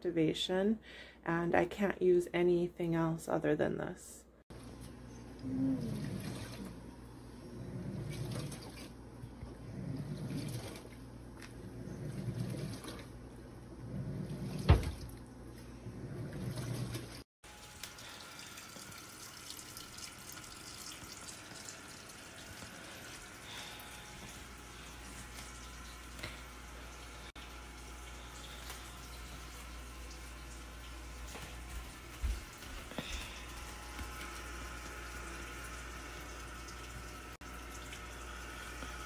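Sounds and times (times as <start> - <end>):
water sloshing in washing machine: 4.5 - 39.0.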